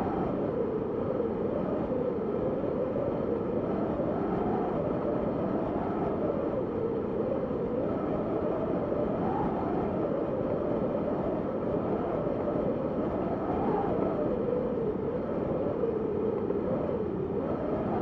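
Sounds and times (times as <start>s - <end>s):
wind blowing with whistling: 0.0s - 18.0s.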